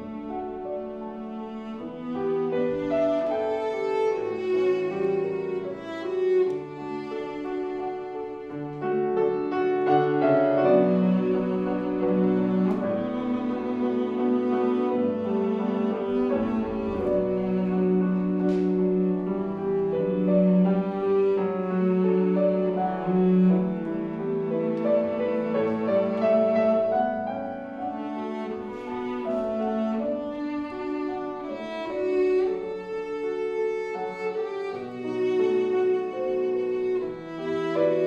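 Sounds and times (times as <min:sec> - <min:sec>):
cello melody: 0:00.0 - 0:38.0
piano accompaniment: 0:00.0 - 0:38.0.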